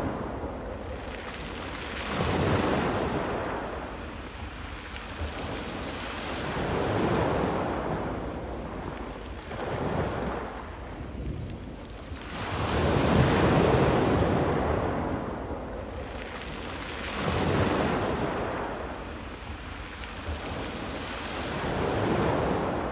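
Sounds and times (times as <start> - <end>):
waves breaking on stony beach: 0.0 - 22.9.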